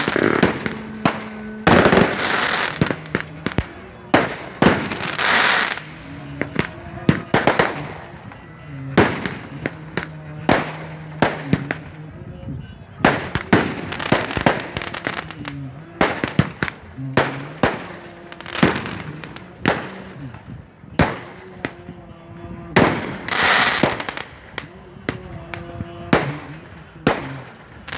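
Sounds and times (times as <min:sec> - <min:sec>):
fireworks bangs: 0:00.0 - 0:27.9.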